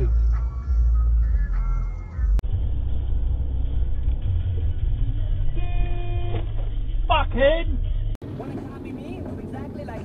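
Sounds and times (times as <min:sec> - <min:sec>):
car driving rumble from inside: 0:00.0 - 0:10.0.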